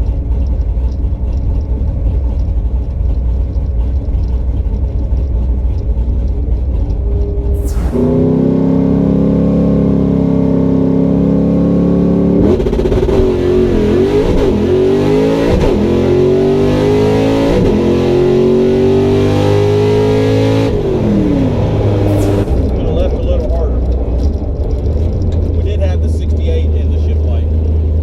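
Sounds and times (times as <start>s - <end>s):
drag car engine accelerating: 0.0s - 28.0s.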